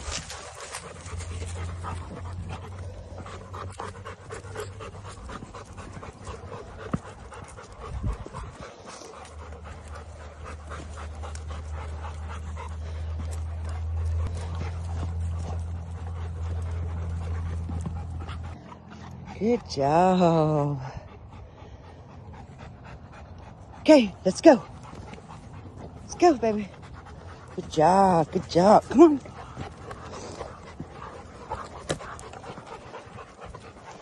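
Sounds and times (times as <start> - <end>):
dogs panting: 0.0 - 34.0
low steady rumble: 0.0 - 34.0.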